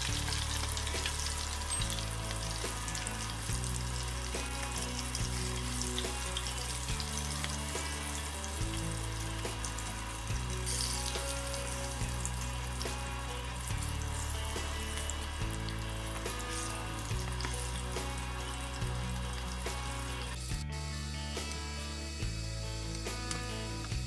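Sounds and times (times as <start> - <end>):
background music with bass: 0.0 - 24.0
hot oil sizzling and crackling: 0.0 - 24.0.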